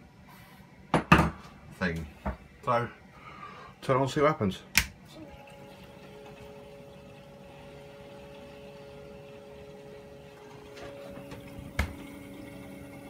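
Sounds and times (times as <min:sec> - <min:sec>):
water pump humming: 0:01.7 - 0:13.0.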